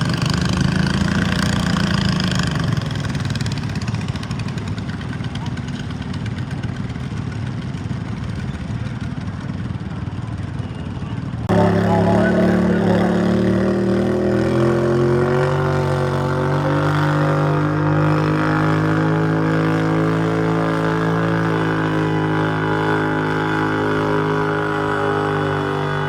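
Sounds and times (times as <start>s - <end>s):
tractor engine running under load: 0.0s - 10.5s, 11.5s - 26.0s.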